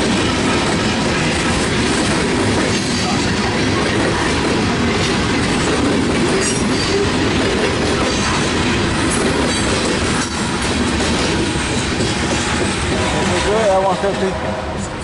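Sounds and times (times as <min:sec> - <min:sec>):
train wheels running on rails: 0:00.0 - 0:15.0.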